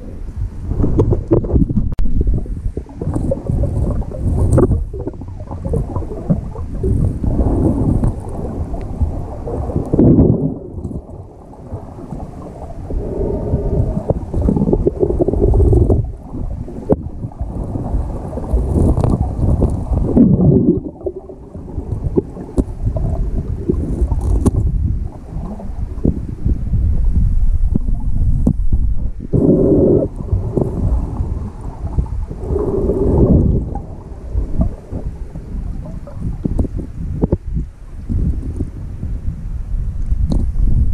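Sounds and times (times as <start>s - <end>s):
underwater water rumbling: 0.0s - 40.9s.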